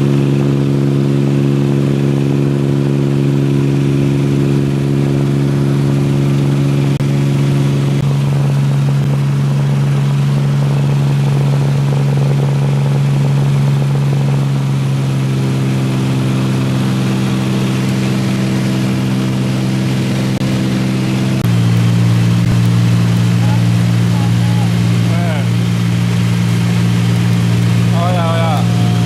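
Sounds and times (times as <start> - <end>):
light aircraft engine droning: 0.0 - 29.0.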